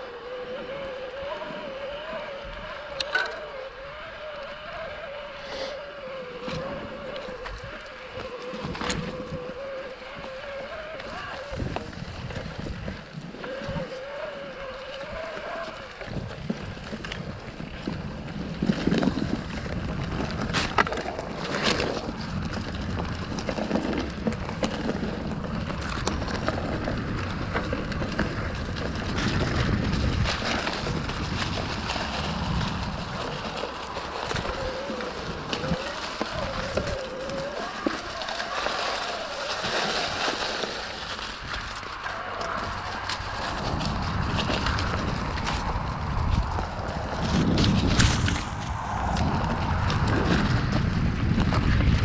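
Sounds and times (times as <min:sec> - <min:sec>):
bike rattling over bumps: 0:00.0 - 0:52.0
bike tyres rolling over dirt and leaves: 0:00.0 - 0:52.0
wind on microphone: 0:00.0 - 0:52.0.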